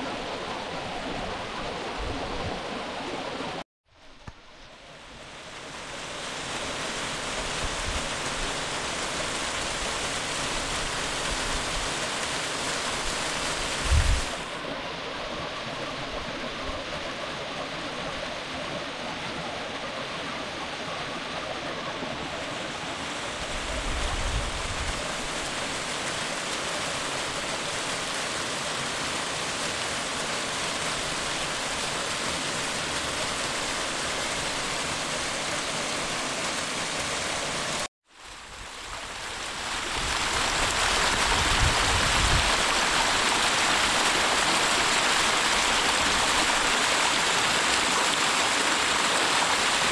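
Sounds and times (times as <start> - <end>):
bright rush of water: 0.0 - 49.9
river water flowing: 0.0 - 49.9.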